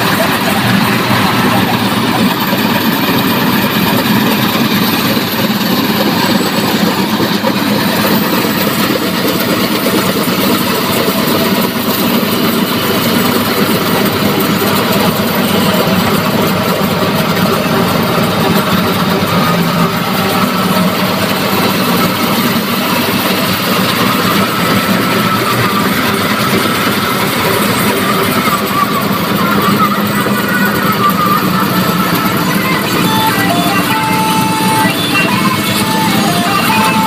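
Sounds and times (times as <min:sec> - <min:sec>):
tractor diesel engine and machinery: 0:00.0 - 0:37.0.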